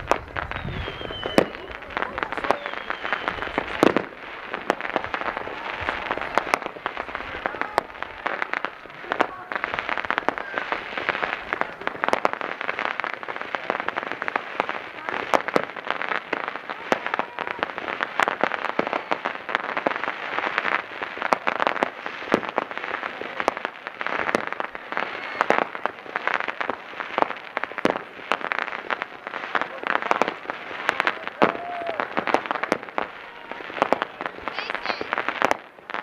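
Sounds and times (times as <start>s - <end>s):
fireworks popping and crackling: 0.0s - 36.0s.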